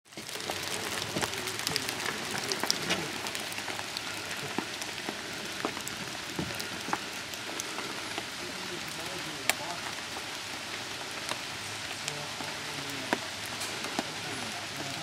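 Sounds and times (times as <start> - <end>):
steady rain: 0.1 - 15.0.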